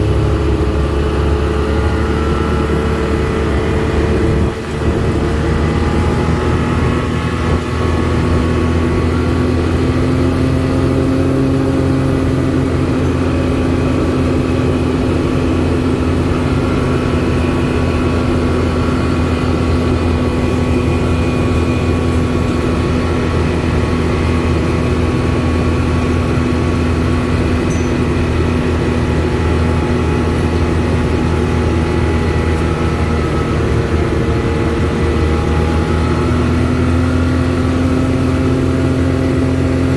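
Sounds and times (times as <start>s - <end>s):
car engine and tyre drone: 0.0s - 39.9s.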